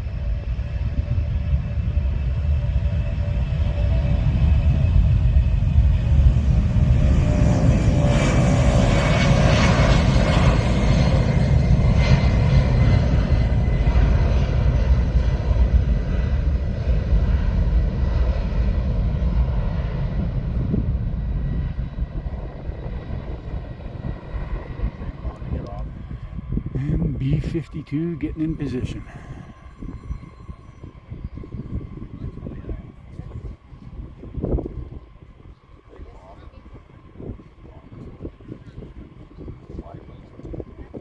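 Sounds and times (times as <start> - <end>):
military aircraft engines roaring: 0.0 - 41.0.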